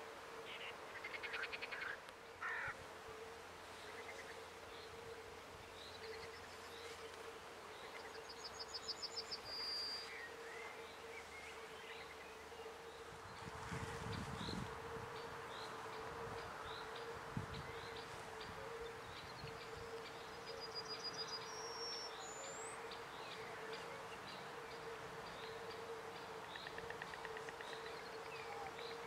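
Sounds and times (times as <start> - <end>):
high insect hum: 0.0 - 29.0.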